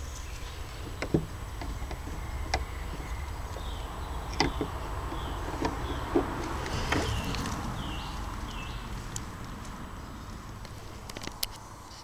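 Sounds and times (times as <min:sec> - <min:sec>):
handling clicks and knocks: 0:00.0 - 0:09.8, 0:10.5 - 0:11.6
wind rumbling on microphone: 0:00.0 - 0:12.0.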